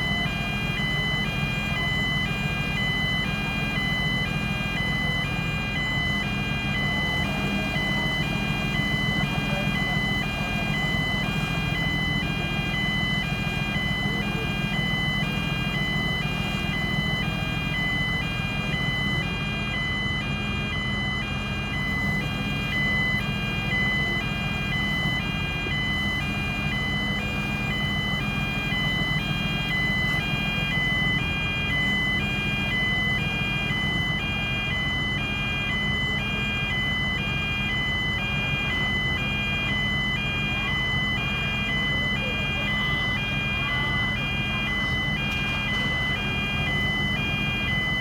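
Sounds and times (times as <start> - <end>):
diesel engine running: 0.0 - 48.0
two-tone warning alarm beeping: 0.0 - 48.0.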